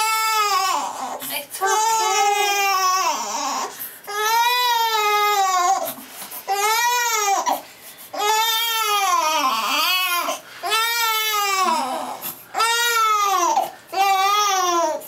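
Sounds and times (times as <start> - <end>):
baby crying: 0.0 - 7.6, 8.2 - 15.0.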